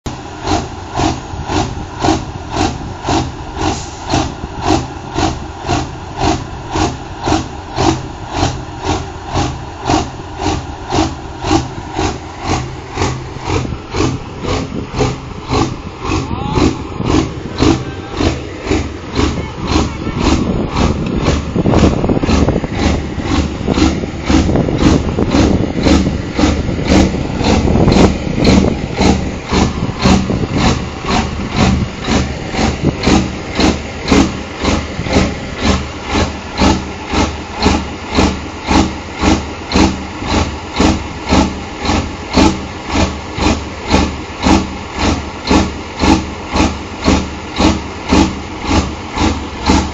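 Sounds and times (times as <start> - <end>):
diesel engine lumpy idle: 0.1 - 49.9.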